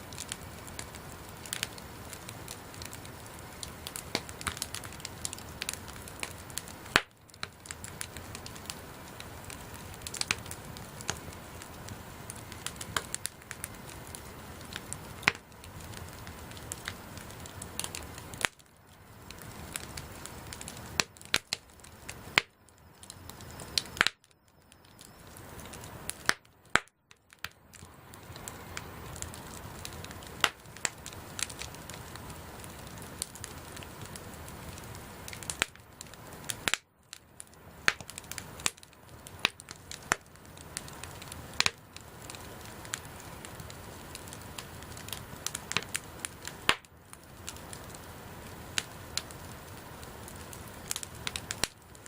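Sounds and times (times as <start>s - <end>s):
bonfire hissing: 0.0s - 52.0s
fire crackling and popping: 0.0s - 52.0s.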